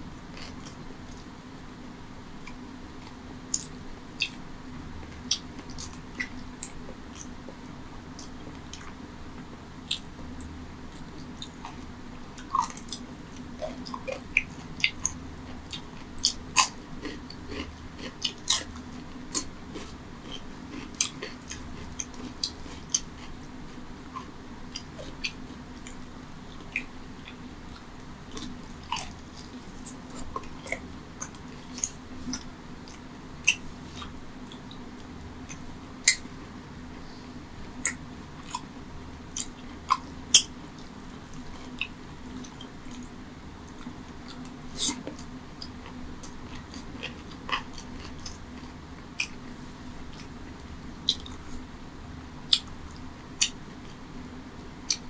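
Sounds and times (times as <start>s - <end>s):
person chewing and lip smacking: 0.3s - 1.3s, 2.4s - 4.4s, 5.0s - 7.6s, 8.2s - 9.0s, 9.8s - 36.6s, 37.7s - 51.7s, 52.5s - 54.0s.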